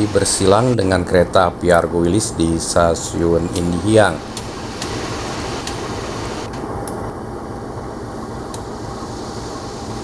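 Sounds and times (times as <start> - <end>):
train diesel hum: 0.0 - 10.0.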